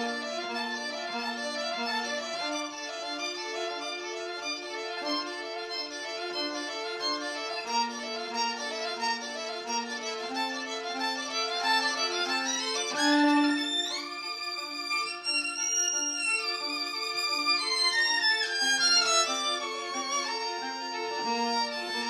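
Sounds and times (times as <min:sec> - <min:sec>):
electric violin playing: 0:00.0 - 0:22.0.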